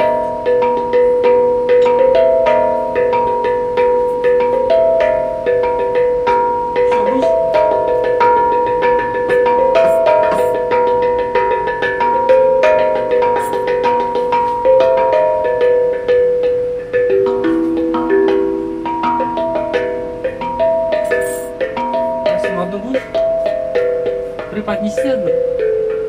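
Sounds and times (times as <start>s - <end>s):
tuned percussion melody: 0.0s - 26.0s.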